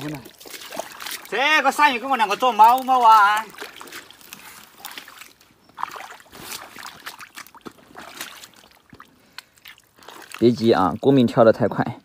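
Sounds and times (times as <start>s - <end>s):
hands squelching in mud and water: 0.0s - 11.3s.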